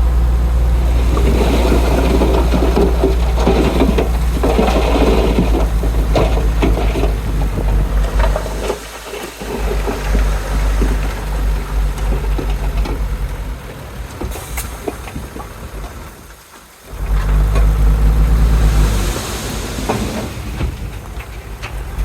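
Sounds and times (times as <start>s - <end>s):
heavy diesel engine rumbling: 0.0s - 16.2s, 16.9s - 22.0s.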